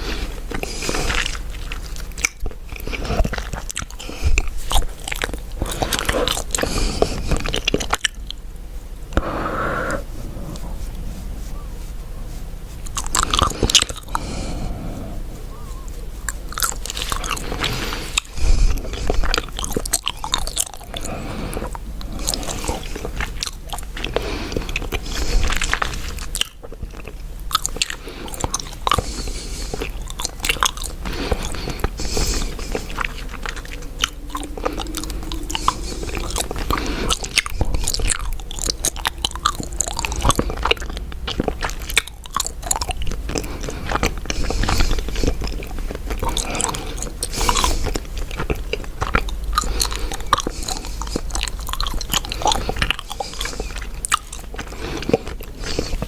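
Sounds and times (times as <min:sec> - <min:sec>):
gum chewing smacking: 0:00.0 - 0:56.0.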